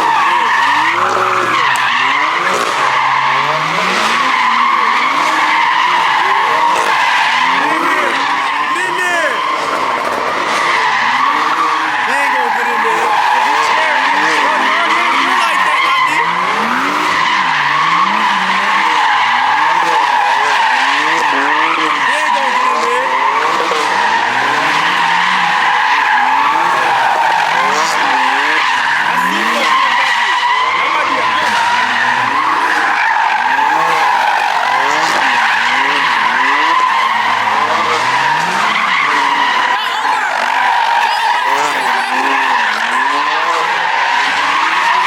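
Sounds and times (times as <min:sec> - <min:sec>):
car engine revving: 0:00.0 - 0:45.0
tyres squealing: 0:00.0 - 0:45.0.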